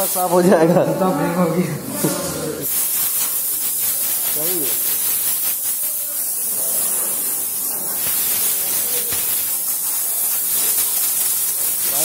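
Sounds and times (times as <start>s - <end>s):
air blow gun hissing: 0.0s - 0.8s, 1.8s - 12.0s.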